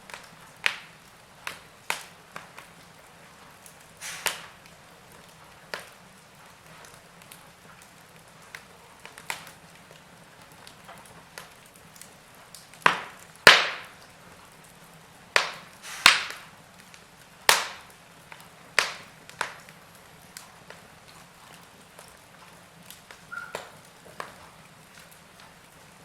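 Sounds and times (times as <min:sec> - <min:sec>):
faint steady hiss: 0:00.0 - 0:26.0
logs crackling in a fireplace: 0:00.0 - 0:26.0.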